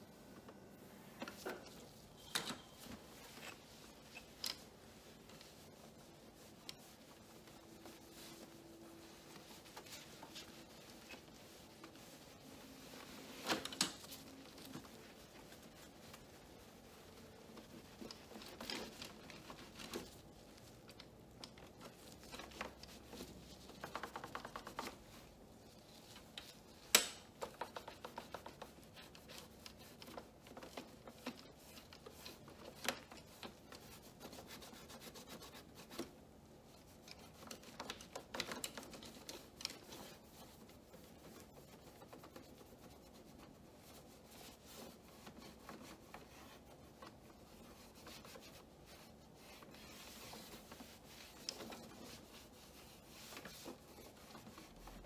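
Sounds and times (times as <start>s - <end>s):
cloth wiping plastic panel: 0.0s - 55.0s.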